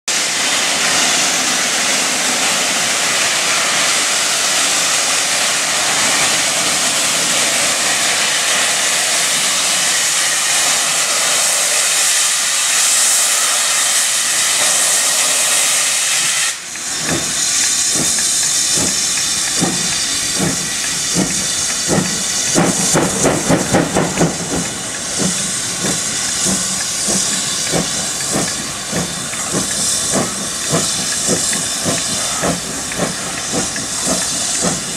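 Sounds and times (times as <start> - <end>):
steam hissing: 0.1 - 34.9
steam locomotive chuffing: 0.1 - 34.9.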